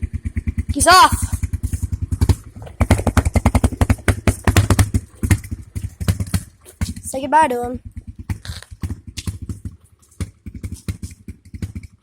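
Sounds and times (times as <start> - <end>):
dirt bike engine chugging: 0.0 - 12.0.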